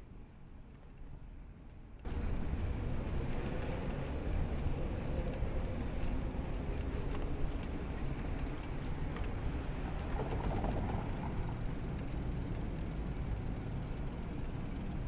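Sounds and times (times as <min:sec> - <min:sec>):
bicycle ticking: 0:00.0 - 0:15.0
wind and rolling tyres rumble: 0:00.0 - 0:15.0.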